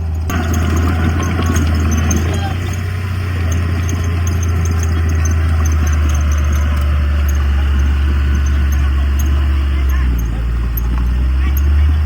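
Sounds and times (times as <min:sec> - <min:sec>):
diesel earthmoving machine running: 0:00.0 - 0:12.0.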